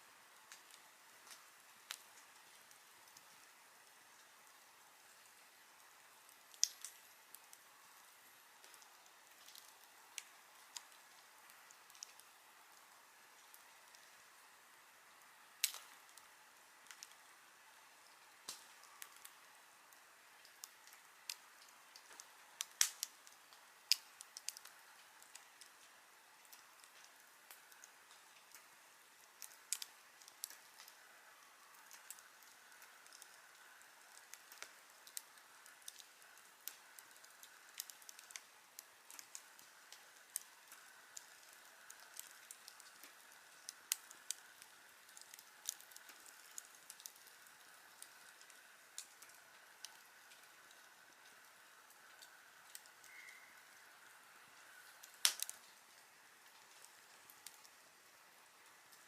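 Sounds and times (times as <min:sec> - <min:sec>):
campfire crackling and popping: 0:00.0 - 0:59.0
faint steady hiss: 0:00.0 - 0:59.0.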